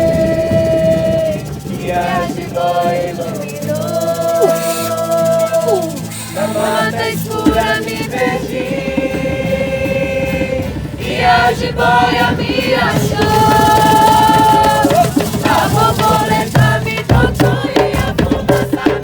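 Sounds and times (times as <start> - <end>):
person singing: 0.0 - 19.0
shaker rattle: 0.0 - 19.0.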